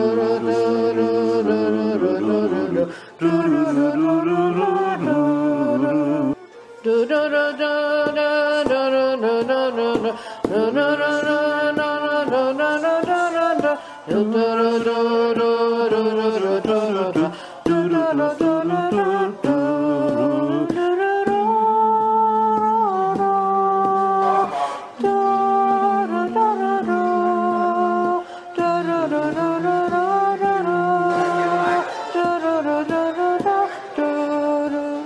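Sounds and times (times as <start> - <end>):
folk dance music: 0.0 - 35.0.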